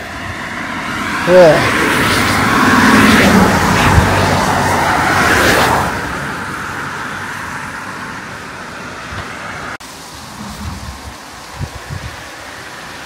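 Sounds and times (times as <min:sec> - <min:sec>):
vehicle passing on highway: 0:00.0 - 0:13.0.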